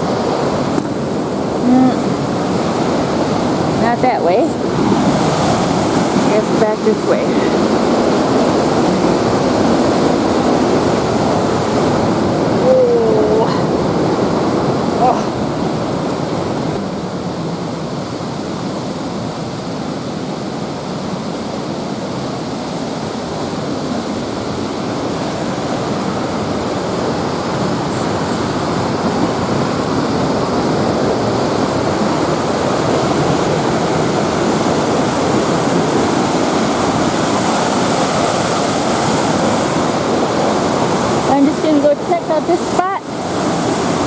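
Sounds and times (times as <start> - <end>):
cascading river water rushing: 0.0 - 44.0.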